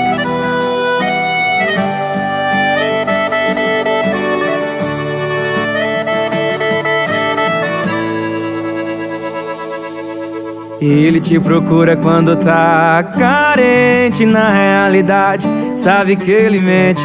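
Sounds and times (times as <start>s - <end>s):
piano accordion melody: 0.0s - 16.4s.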